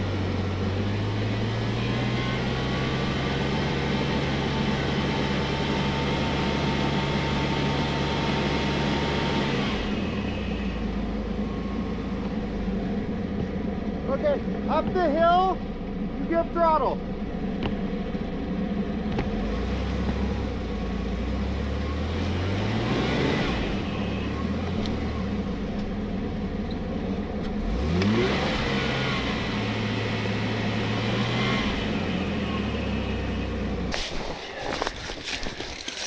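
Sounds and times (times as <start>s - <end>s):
vehicle engine revving under load: 0.0s - 14.7s, 18.9s - 35.4s.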